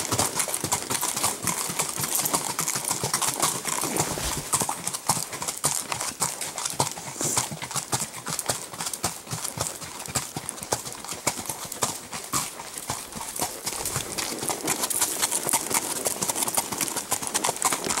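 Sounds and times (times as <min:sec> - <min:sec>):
horse hooves clip-clopping: 0:00.0 - 0:18.0.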